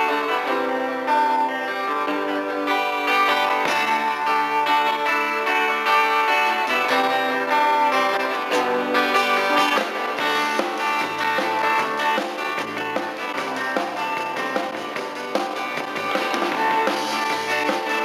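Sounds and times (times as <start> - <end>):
country-rock band with guitars: 0.0 - 18.0.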